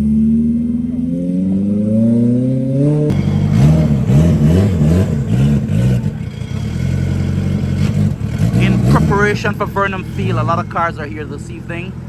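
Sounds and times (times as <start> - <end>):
car engine accelerating: 0.0 - 12.0
rough engine revving in blips: 0.0 - 12.0.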